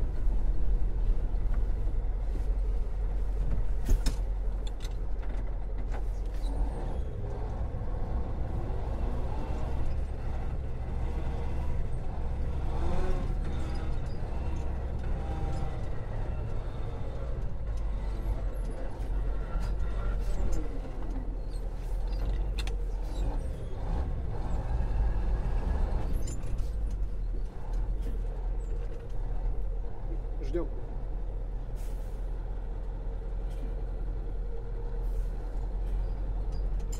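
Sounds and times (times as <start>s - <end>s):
truck engine rumble: 0.0s - 36.9s.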